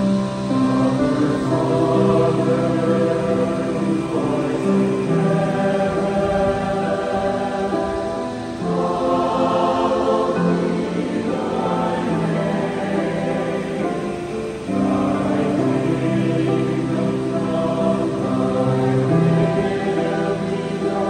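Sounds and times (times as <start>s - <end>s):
choir singing in harmony: 0.0s - 21.0s.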